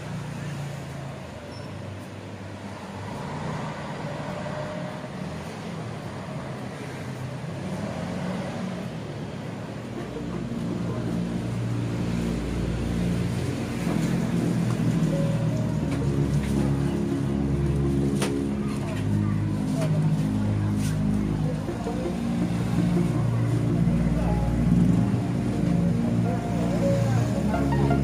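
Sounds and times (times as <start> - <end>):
city street traffic: 0.0 - 28.0
vehicle engine rumbling nearby: 0.0 - 28.0.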